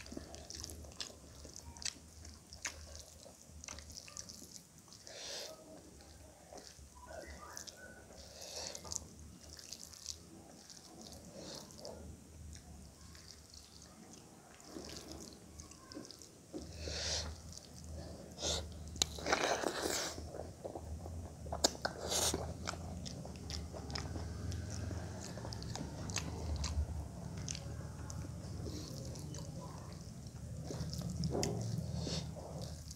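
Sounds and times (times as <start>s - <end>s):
fingers squishing rice: 0.0s - 32.9s
wet chewing: 0.0s - 32.9s.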